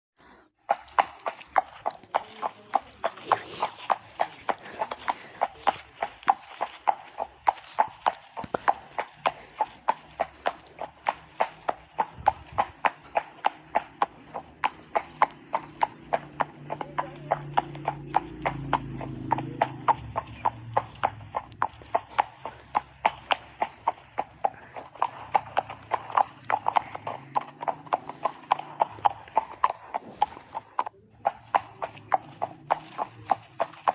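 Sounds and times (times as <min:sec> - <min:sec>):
horse hooves clip-clopping: 0:00.6 - 0:33.9.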